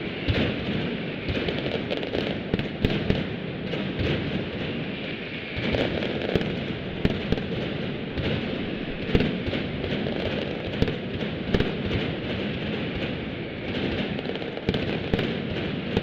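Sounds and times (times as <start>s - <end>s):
firecracker bangs barrage: 0.0s - 16.0s.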